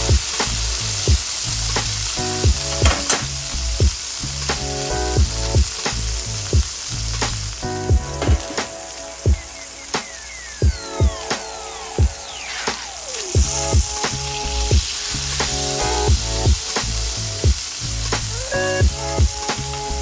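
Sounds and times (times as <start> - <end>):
background music with a beat: 0.0 - 20.0
meat sizzling in hot oil: 0.0 - 20.0.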